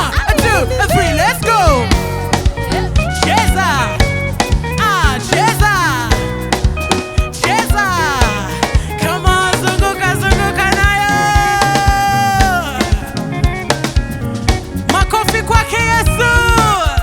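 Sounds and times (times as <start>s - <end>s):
drum kit: 0.0s - 17.0s
gospel band playing: 0.0s - 17.0s
person singing: 0.0s - 17.0s.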